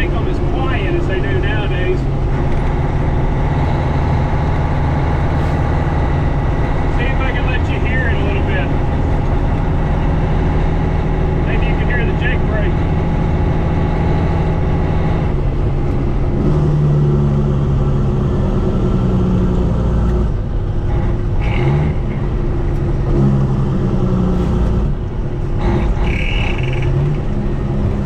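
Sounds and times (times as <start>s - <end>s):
combine harvester machinery drone: 0.0s - 28.0s.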